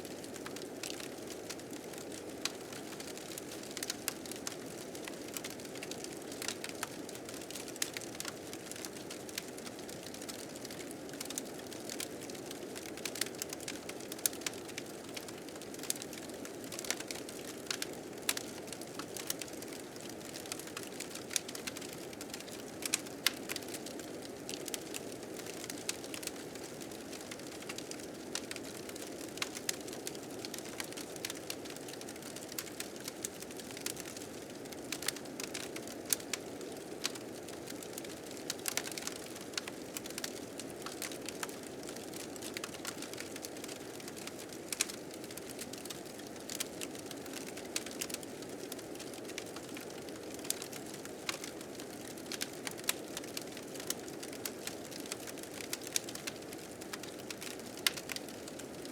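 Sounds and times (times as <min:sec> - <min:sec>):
fire crackling and popping: 0:00.1 - 0:58.8.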